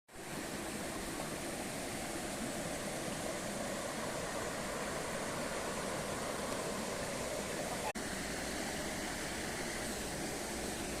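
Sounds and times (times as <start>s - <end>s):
waterfall rushing: 0.2s - 11.0s.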